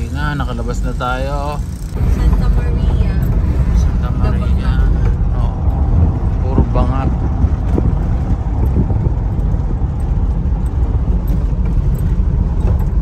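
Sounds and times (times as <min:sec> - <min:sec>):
van engine and road noise rumble: 0:00.0 - 0:13.0.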